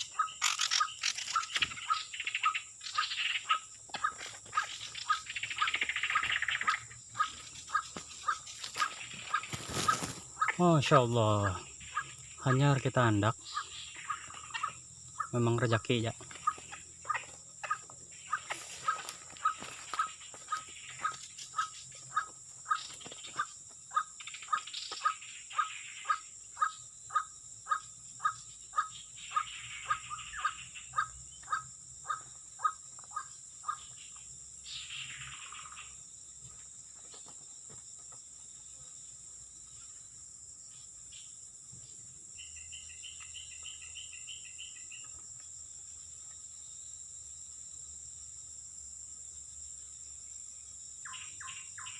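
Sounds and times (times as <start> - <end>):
high insect drone: 0.0 - 51.9.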